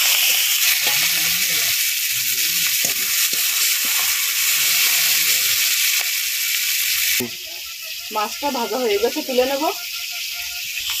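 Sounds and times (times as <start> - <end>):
prawns sizzling in hot oil: 0.0 - 11.0
sharp oil crackles: 0.0 - 11.0.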